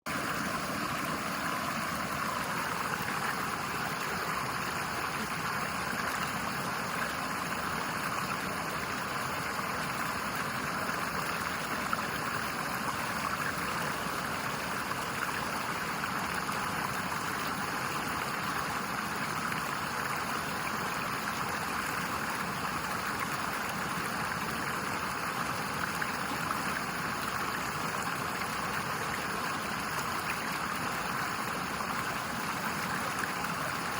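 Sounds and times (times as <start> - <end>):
water flowing in a stream: 0.0 - 33.9.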